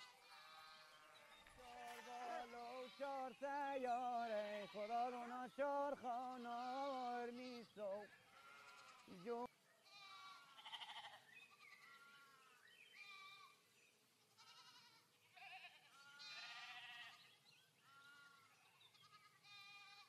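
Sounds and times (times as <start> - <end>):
goats and sheep bleating: 0.0 - 20.0.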